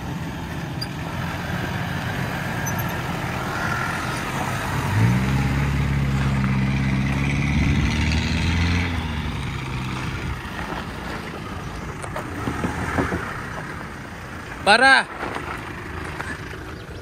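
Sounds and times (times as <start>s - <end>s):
vehicle engine pulling under load: 0.0s - 17.0s.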